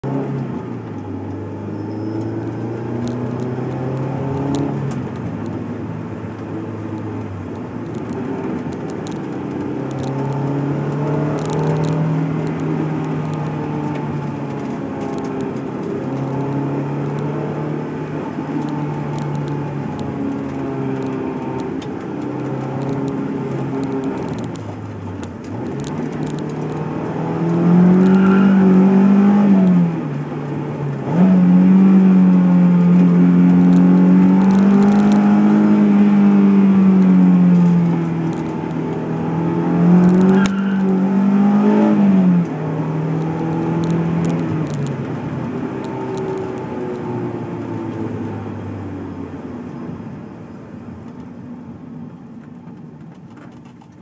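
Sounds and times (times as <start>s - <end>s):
car engine from inside cabin: 0.0s - 54.0s.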